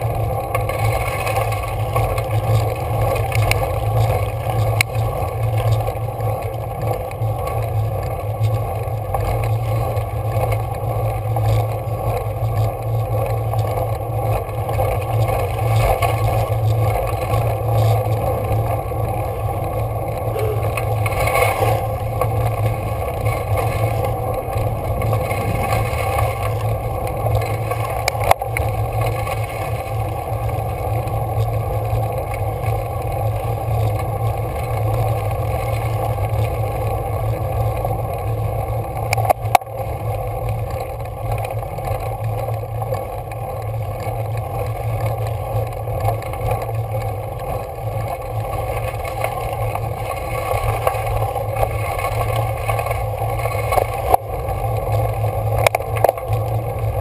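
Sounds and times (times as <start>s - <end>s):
bicycle tyres rumbling on rough road: 0.0s - 57.0s.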